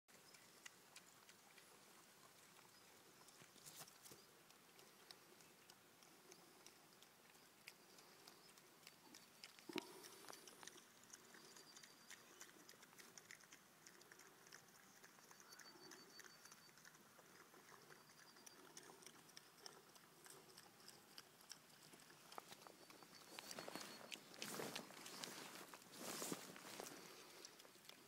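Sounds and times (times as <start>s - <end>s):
piglets chewing: 0.1s - 28.0s
small clicks and ticks: 0.1s - 28.0s.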